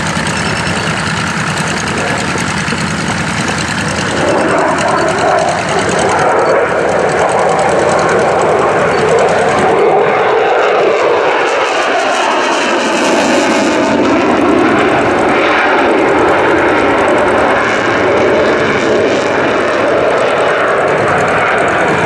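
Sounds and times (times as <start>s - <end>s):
fighter jet engine roar: 0.0s - 22.0s.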